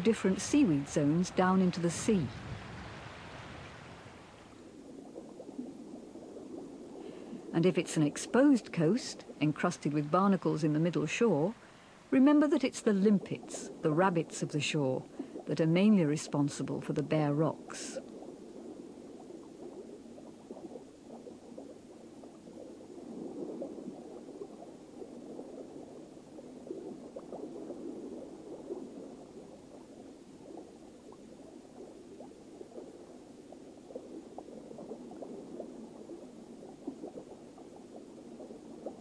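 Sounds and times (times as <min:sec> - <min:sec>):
sea water washing over rocks: 0:00.0 - 0:16.6, 0:17.6 - 0:39.0.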